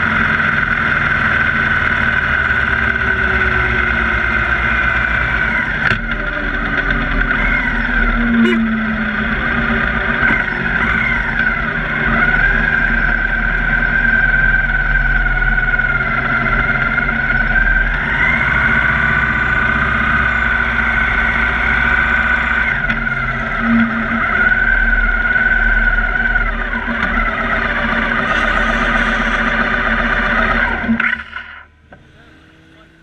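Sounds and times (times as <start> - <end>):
high whine wavering in pitch: 0.0 - 31.8
motorcycle engine at low speed: 0.0 - 33.0.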